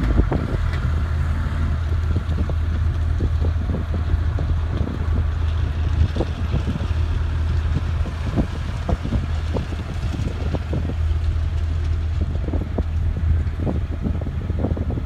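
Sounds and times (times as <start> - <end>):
truck engine droning: 0.0 - 15.0
wind buffeting microphone: 0.0 - 15.0.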